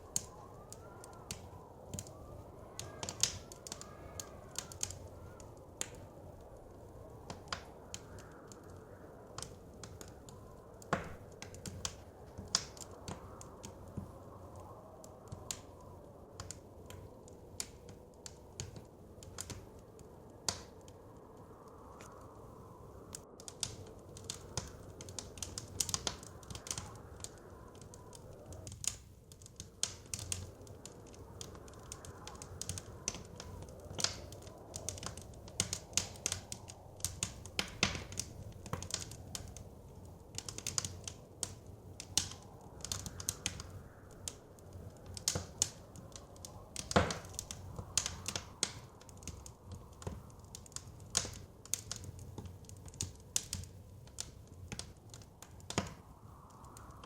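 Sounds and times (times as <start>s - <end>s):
blizzard wind rushing: 0.0s - 57.0s
wood fire crackling and popping: 0.0s - 57.0s.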